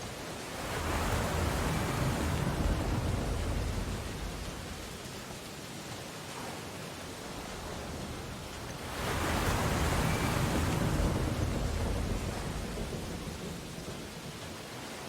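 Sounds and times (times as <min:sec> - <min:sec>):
steady surf hiss: 0:00.0 - 0:15.0
wave breaking: 0:00.4 - 0:05.4, 0:06.4 - 0:14.4.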